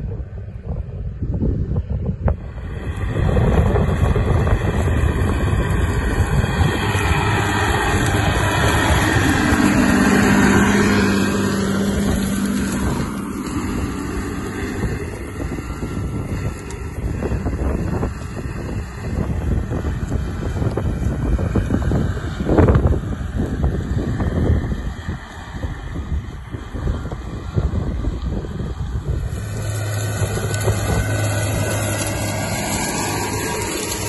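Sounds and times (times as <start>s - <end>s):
tractor diesel engine under load: 0.0s - 34.0s
wind buffeting microphone: 0.0s - 34.0s.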